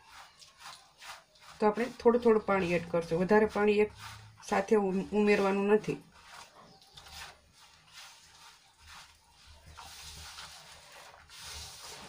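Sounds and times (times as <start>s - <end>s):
hand kneading dough in steel bowl: 0.0s - 12.0s.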